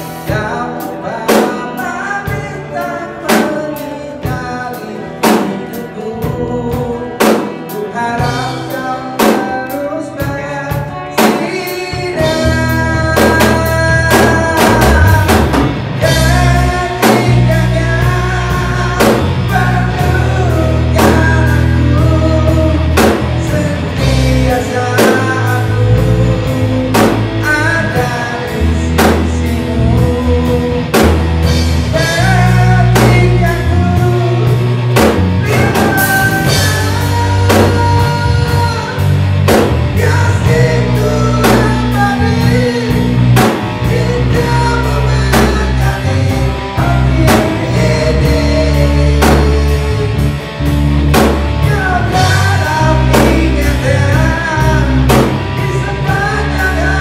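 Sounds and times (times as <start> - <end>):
bass guitar: 0.0 - 57.0
drum kit beat: 0.0 - 57.0
guitar: 0.0 - 57.0
man singing into a microphone: 0.0 - 57.0.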